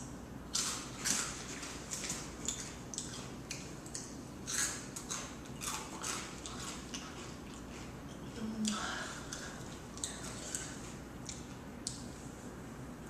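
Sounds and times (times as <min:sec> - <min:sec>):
chewing and mouth sounds: 0:00.5 - 0:12.0.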